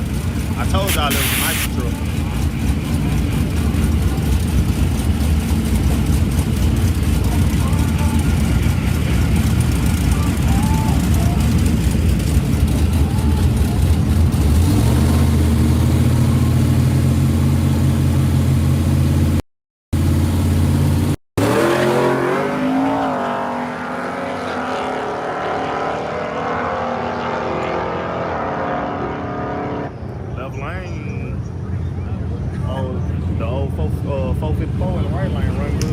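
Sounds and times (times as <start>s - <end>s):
truck engines at full throttle: 0.0s - 19.4s, 20.0s - 35.9s.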